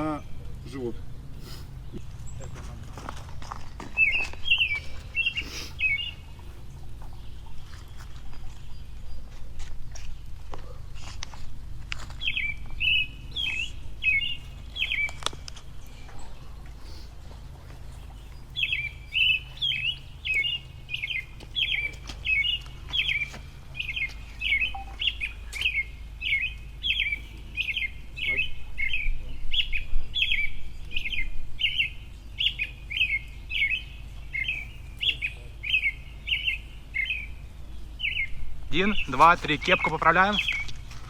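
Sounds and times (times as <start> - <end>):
bird chirping: 0.0 - 10.8, 12.0 - 41.0.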